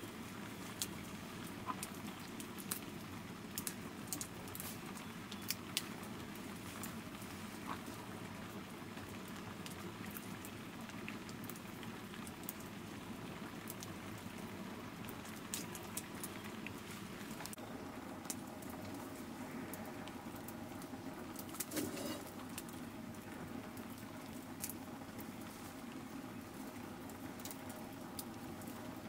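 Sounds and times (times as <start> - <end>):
steady low hiss: 0.0 - 29.0.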